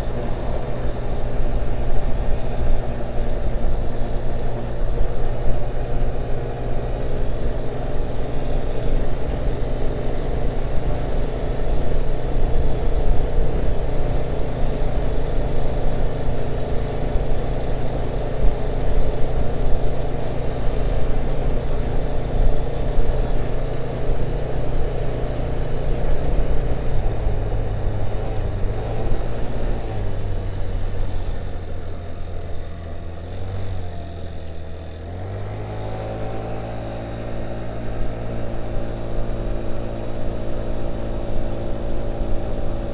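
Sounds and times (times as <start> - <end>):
scooter engine running rattly: 0.0 - 42.9.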